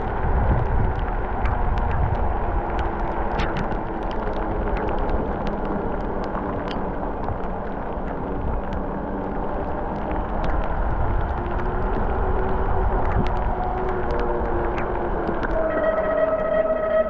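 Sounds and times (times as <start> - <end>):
rolling rumble of bike: 0.0 - 17.0
wind on microphone: 0.0 - 17.0.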